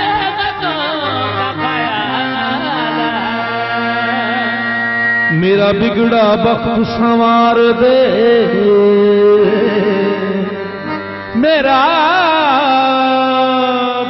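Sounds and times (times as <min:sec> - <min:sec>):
harmonium drone: 0:00.0 - 0:14.0
man singing: 0:00.0 - 0:14.0.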